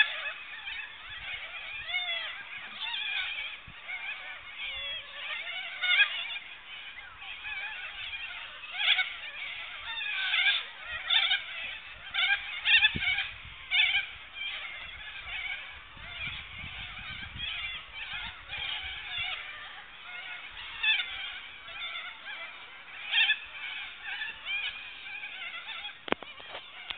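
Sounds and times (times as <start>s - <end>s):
cockatoos screeching: 0.0s - 26.9s.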